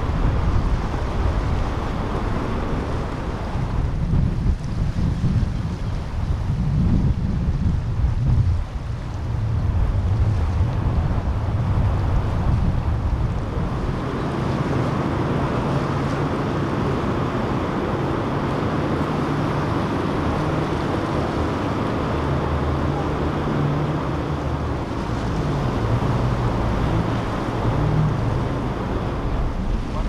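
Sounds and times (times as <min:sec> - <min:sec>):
boat engines droning: 0:00.0 - 0:30.0
waves washing: 0:00.0 - 0:30.0
wind buffeting microphone: 0:00.0 - 0:30.0.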